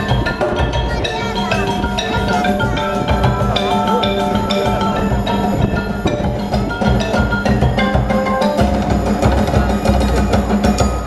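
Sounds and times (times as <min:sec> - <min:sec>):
marimbas and mallet instruments: 0:00.0 - 0:11.0
steady drum pulse: 0:00.0 - 0:11.0.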